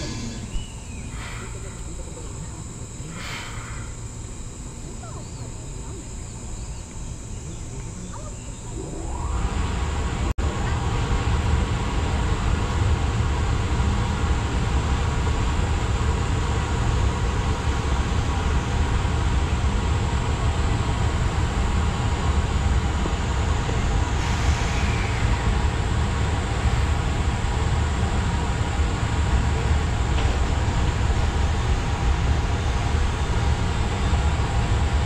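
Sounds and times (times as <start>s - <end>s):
traction motors growling: 0.0s - 12.4s, 17.9s - 35.0s
locomotive blowers humming: 0.0s - 35.0s
steady electric tones: 0.0s - 35.0s.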